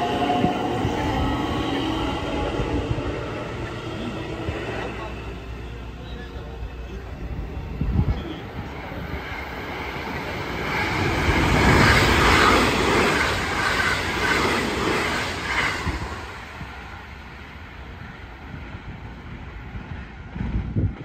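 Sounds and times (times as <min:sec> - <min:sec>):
electric train passing: 0:00.0 - 0:21.0
wheels on rail: 0:00.0 - 0:21.0.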